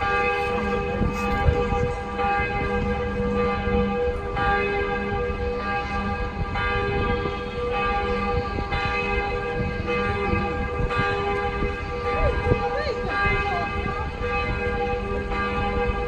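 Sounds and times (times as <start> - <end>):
cathedral bells ringing: 0.0 - 16.0.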